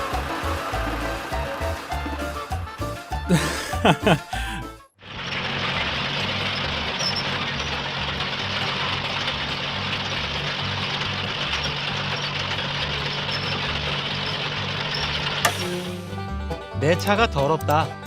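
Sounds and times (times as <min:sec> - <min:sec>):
heavy truck engine chugging: 0:00.0 - 0:03.3, 0:04.4 - 0:17.0.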